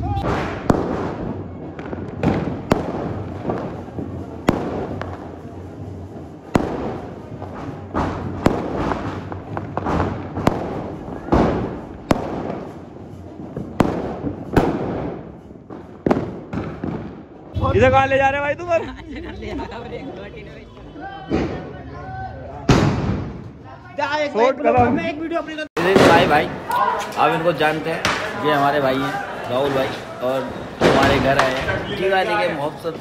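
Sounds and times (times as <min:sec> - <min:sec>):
firecrackers banging: 0:00.0 - 0:23.7, 0:25.8 - 0:33.0.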